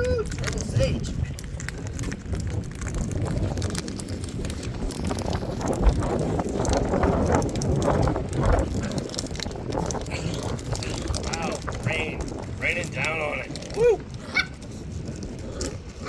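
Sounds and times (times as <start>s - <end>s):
low rumble: 0.0s - 16.0s
dog chewing toy crackling: 0.2s - 16.0s.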